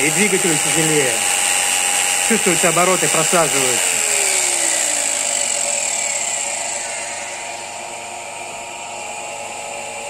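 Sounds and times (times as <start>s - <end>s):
generator hum and whine: 0.0s - 10.0s
jigsaw winding down: 0.0s - 10.0s.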